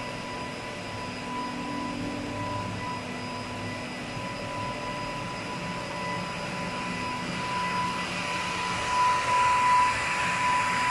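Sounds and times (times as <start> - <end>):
machine high whine: 0.0 - 10.9.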